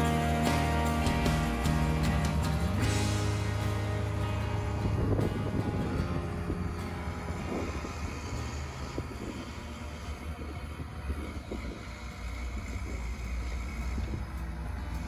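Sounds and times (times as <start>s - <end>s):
diesel engine low drone: 0.0s - 15.0s.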